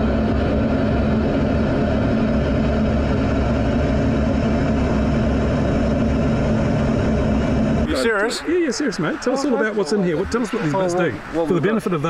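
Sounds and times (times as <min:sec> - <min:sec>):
constant low hum: 0:00.0 - 0:12.0
jet engine and airflow rushing: 0:00.0 - 0:12.0.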